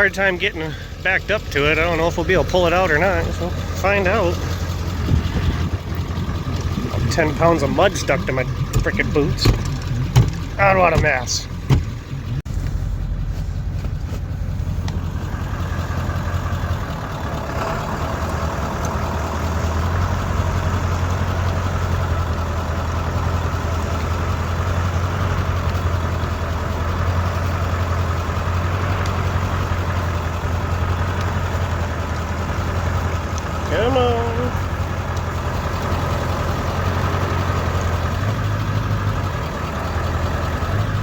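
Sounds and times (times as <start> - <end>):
truck engine under load: 0.0 - 41.0.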